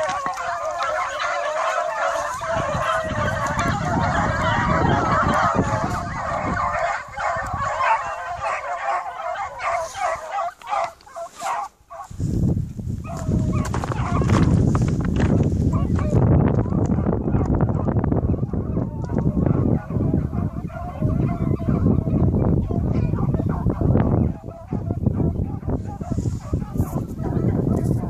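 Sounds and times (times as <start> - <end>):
hounds baying: 0.0 - 12.2, 13.0 - 14.6, 15.7 - 28.0.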